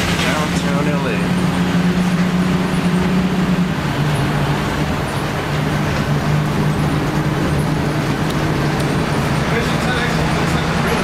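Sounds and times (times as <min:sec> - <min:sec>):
bus diesel engine running: 0:00.0 - 0:11.0
road and tyre noise: 0:00.0 - 0:11.0.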